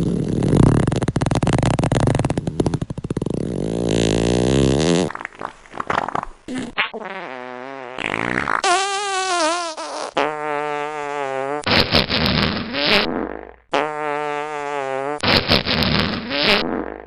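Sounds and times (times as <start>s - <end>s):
fart sounds: 0.0s - 17.0s.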